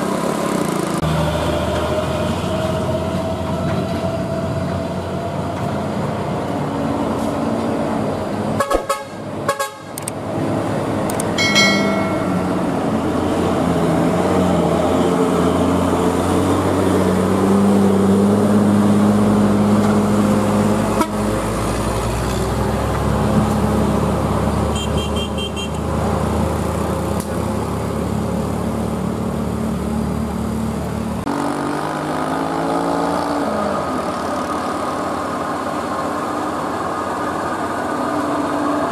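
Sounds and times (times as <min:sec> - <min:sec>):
diesel engines revving: 0:00.0 - 0:38.9.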